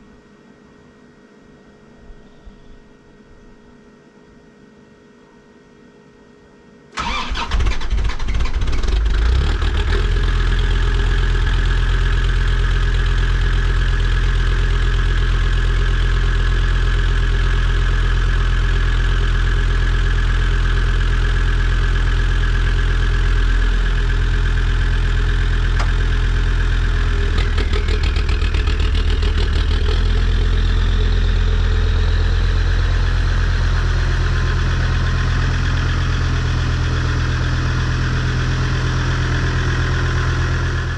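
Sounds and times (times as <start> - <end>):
diesel engine starting and idling: 7.0 - 40.9.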